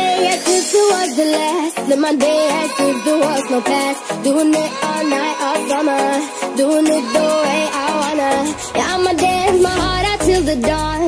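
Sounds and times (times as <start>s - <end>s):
upbeat music with percussion: 0.0s - 11.0s.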